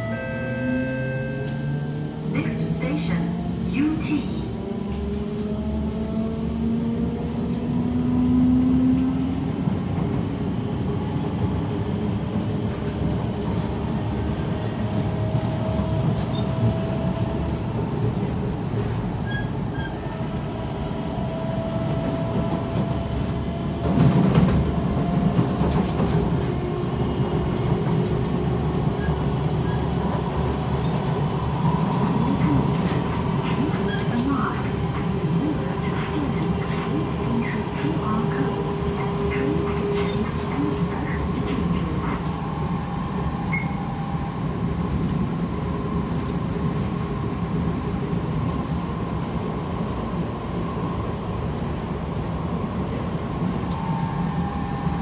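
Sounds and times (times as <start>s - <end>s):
loud train rumble: 0.0s - 55.0s.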